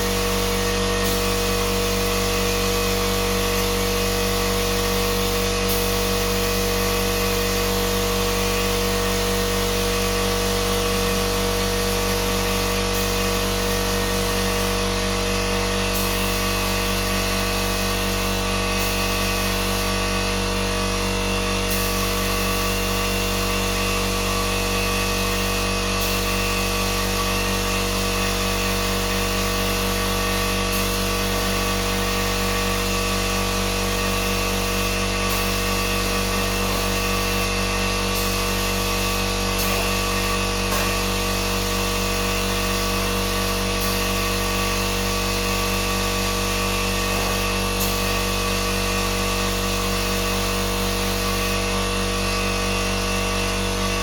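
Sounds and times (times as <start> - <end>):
power tool motor humming: 0.0 - 54.0.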